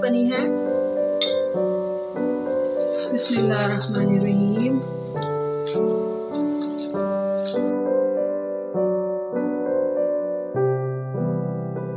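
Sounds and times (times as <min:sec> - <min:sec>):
piano music: 0:00.0 - 0:11.9.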